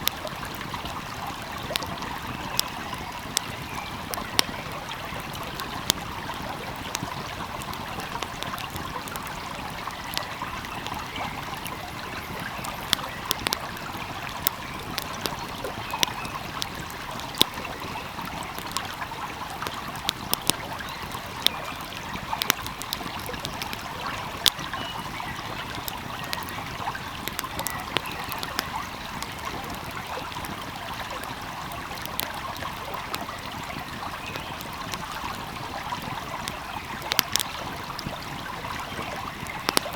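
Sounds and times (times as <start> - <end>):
stream flowing: 0.0 - 39.9
wood fire crackling: 0.0 - 39.9.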